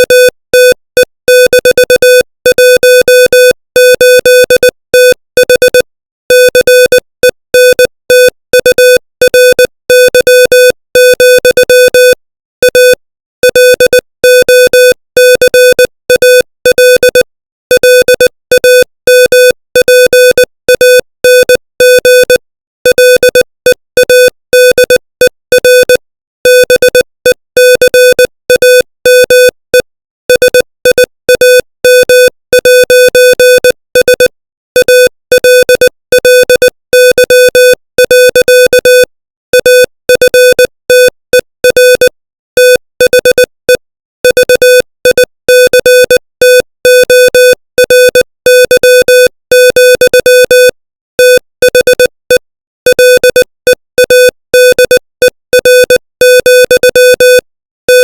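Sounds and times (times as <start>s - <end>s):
morse code beeps: 0.0s - 58.0s.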